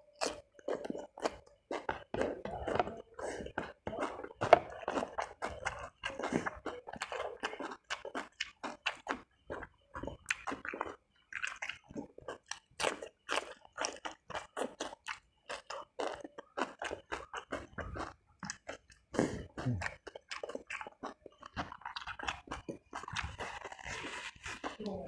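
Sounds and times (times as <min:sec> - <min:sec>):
chewing with wet mouth smacks: 0:00.1 - 0:24.9.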